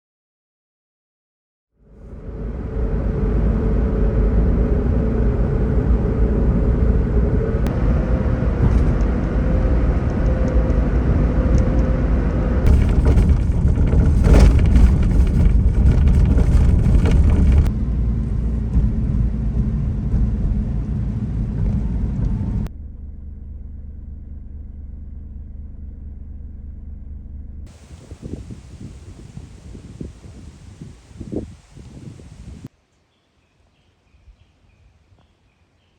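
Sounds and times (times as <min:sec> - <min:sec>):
vehicle engine rumbling: 0:01.9 - 0:32.7.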